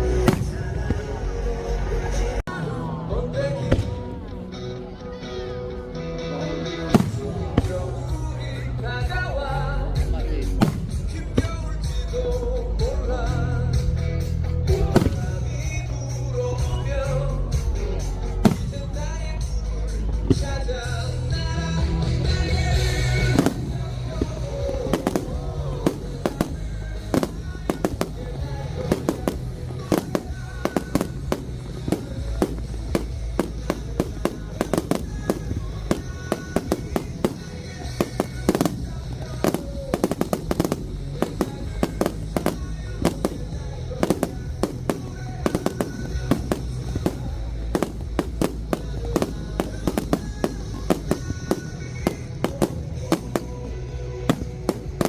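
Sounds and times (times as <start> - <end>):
fireworks bursting with bangs and crackles: 0.0 - 2.0, 6.8 - 9.3, 10.4 - 13.4, 14.7 - 55.0
festival music: 0.0 - 55.0.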